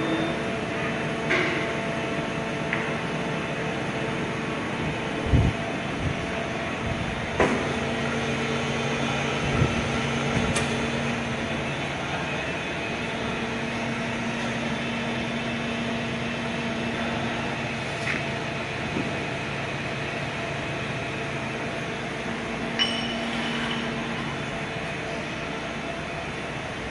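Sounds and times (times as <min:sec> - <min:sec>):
machine mechanical hum: 0:00.0 - 0:26.9.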